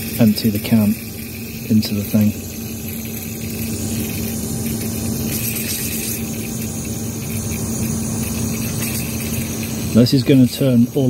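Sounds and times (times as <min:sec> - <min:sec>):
aerosol can hissing: 0:00.0 - 0:11.0
steady low hum: 0:00.0 - 0:11.0.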